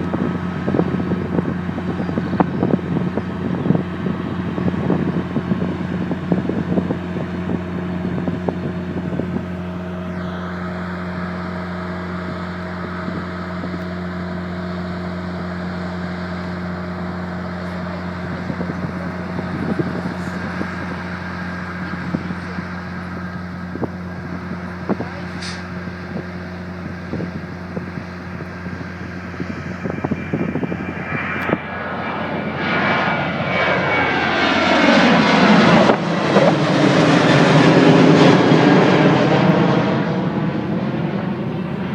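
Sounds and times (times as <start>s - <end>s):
jet engines droning and whining: 0.0s - 41.9s.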